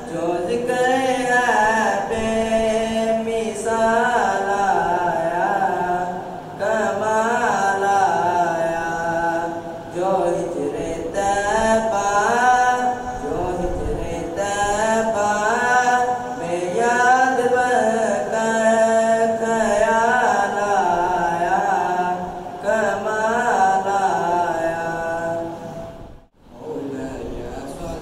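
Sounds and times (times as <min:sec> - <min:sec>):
boy singing unaccompanied: 0:00.0 - 0:25.8.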